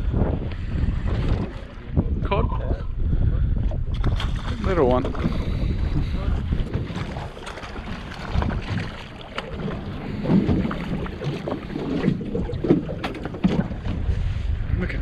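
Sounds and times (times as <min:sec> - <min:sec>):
water lapping against a hull: 0:00.0 - 0:15.0
wind buffeting the microphone: 0:00.0 - 0:15.0.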